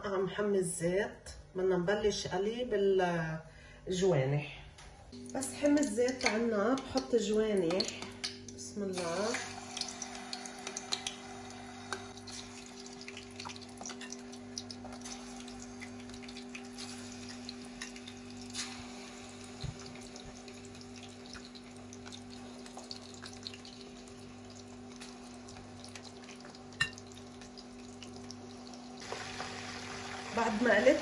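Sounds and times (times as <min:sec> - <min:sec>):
chicken wings sizzling in oil: 0:05.4 - 0:31.0.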